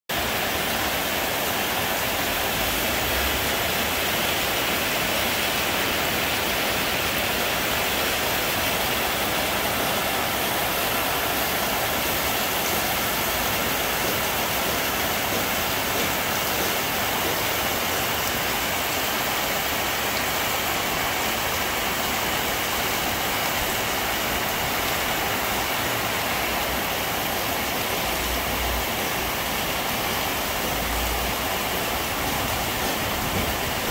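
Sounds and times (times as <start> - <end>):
heavy rain on foliage and roofs: 0.1 - 33.9.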